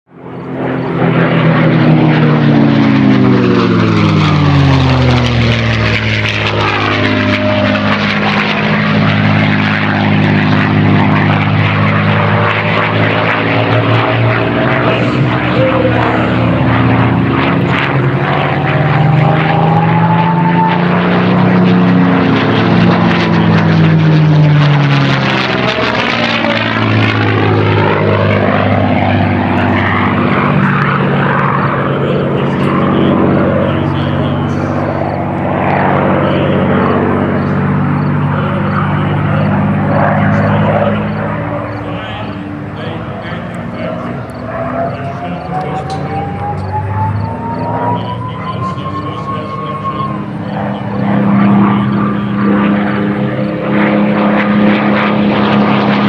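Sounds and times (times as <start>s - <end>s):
propeller aircraft engine in flight: 0.1s - 56.0s.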